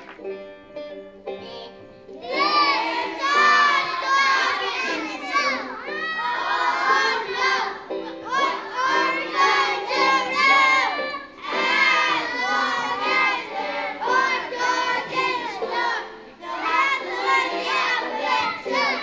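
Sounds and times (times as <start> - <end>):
children singing loudly: 2.2 - 19.0.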